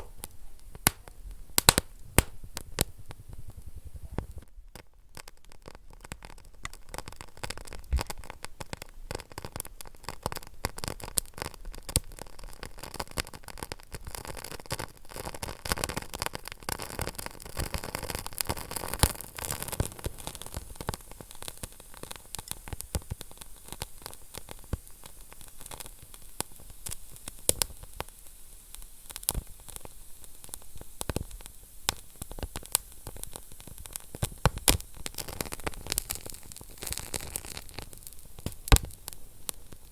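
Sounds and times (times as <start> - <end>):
fire hissing: 0.0 - 4.5, 6.7 - 39.9
fire crackling and popping: 0.0 - 39.9.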